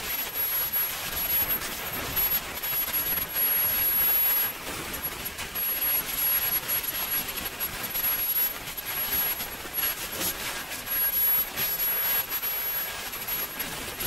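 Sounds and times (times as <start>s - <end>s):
high-pitched turbine whine: 0.0s - 14.0s.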